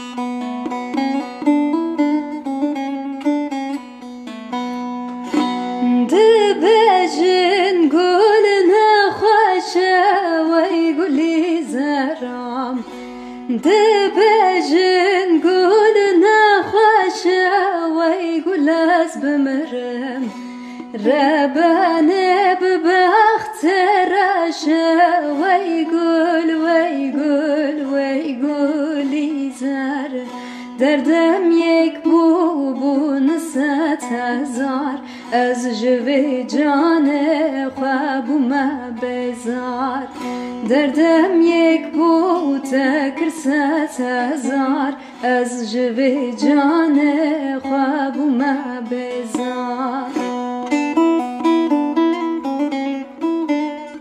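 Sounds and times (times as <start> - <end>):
ornamented melody line: 0.0 - 54.0
plucked string instrument: 0.0 - 54.0.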